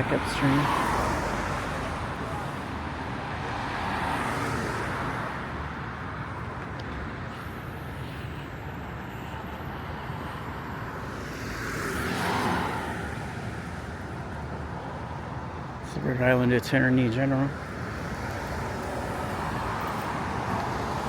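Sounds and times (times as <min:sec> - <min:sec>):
road noise hum: 0:00.0 - 0:21.0
vehicles passing by: 0:00.0 - 0:21.0.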